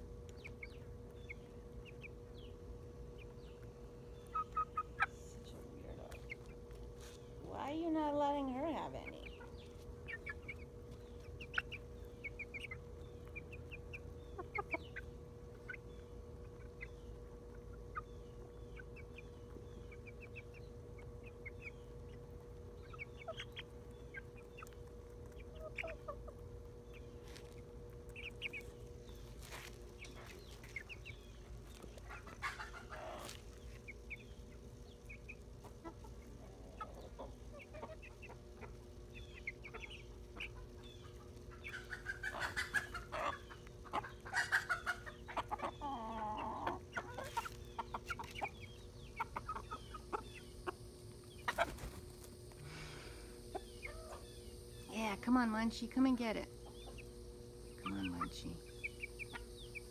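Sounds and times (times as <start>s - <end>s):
chickens clucking and chirping: 0.0s - 59.9s
faint steady hum: 0.0s - 59.9s.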